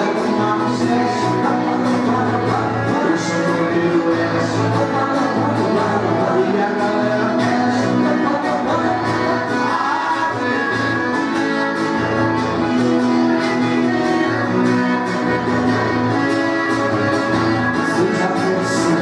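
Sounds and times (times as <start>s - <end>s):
accordion melody: 0.0s - 19.0s
strummed acoustic guitar: 0.0s - 19.0s.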